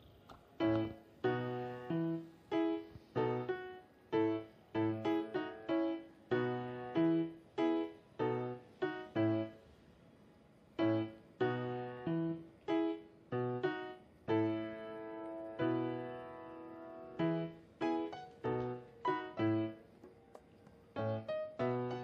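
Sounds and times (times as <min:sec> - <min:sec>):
light keyboard melody: 0:00.0 - 0:09.6, 0:10.8 - 0:22.0.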